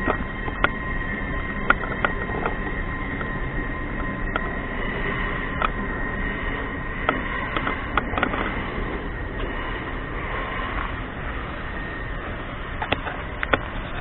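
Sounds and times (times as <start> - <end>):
constant hum: 0.0 - 14.0
steady rumble and hiss: 0.0 - 14.0.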